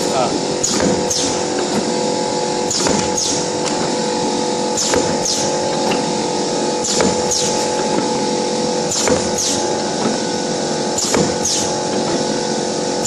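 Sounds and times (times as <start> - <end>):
machine motor hum: 0.0 - 13.0.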